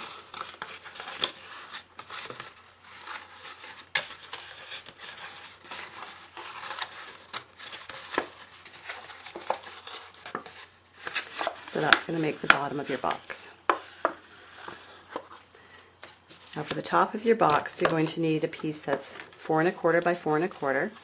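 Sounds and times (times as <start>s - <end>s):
cardstock rustling and crinkling: 0.0s - 21.0s.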